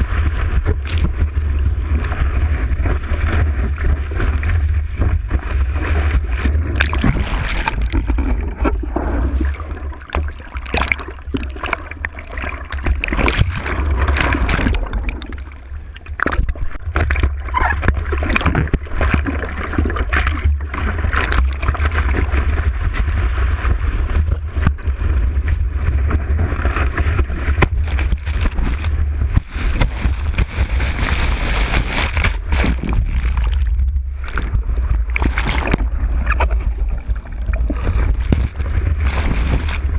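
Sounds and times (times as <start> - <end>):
seawater sloshing and splashing: 0.0 - 39.9
wind rumble on microphone: 0.0 - 39.9.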